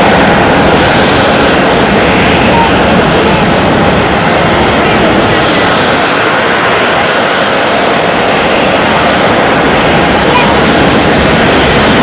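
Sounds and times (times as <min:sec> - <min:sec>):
jet engines on approach: 0:00.0 - 0:12.0.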